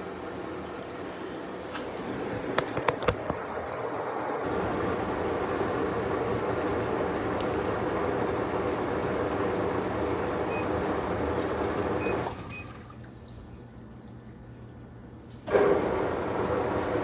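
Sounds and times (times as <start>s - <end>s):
water running into washing machine: 0.0s - 17.0s.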